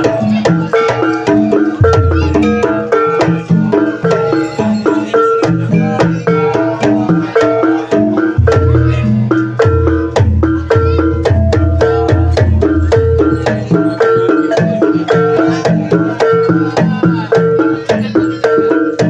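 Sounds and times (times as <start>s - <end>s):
gamelan-style percussion melody: 0.0s - 19.0s
hand-drum strokes: 0.0s - 19.0s.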